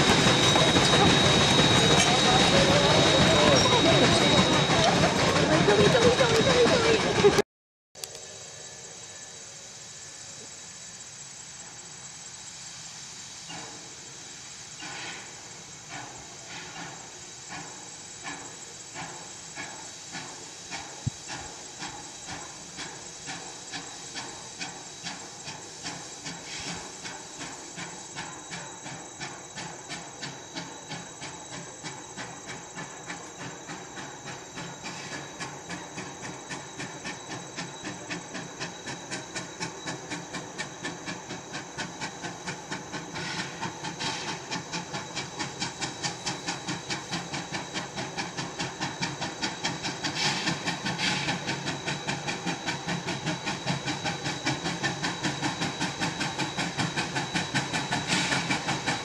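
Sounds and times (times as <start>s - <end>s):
steam hissing: 0.0s - 7.4s, 8.1s - 59.0s
steam locomotive exhaust chuffs: 0.0s - 7.4s, 8.0s - 59.0s.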